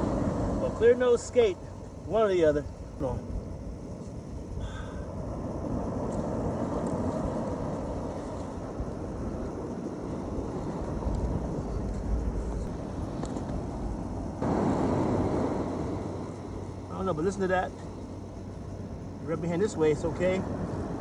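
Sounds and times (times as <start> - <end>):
surf rushing: 0.0 - 3.5, 4.6 - 21.0
wind buffeting microphone: 0.0 - 21.0.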